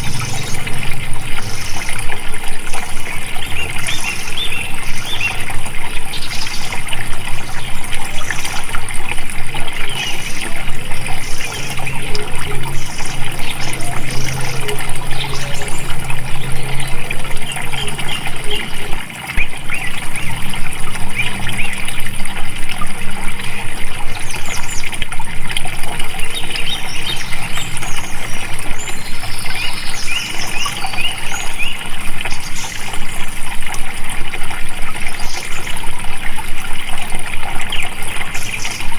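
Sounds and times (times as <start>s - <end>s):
small birds chirping: 0.0s - 25.0s, 26.0s - 33.3s
water flowing and splashing: 0.0s - 38.9s.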